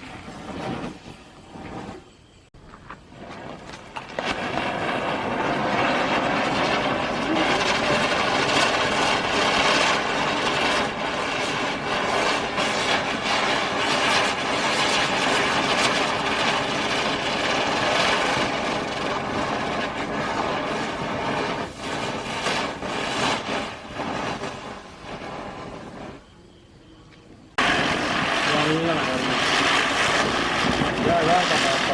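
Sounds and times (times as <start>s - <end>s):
firework crackles: 0.0s - 31.9s
ground spinner firework hissing: 0.0s - 31.9s.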